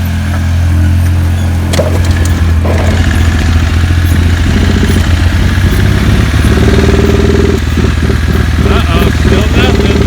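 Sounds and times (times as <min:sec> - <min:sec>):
single-cylinder engine at low revs: 0:00.0 - 0:10.0.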